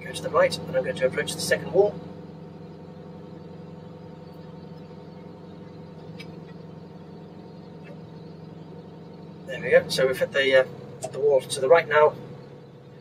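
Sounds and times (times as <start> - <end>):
diesel engine humming: 0.0 - 13.0
hydraulics working: 0.0 - 13.0.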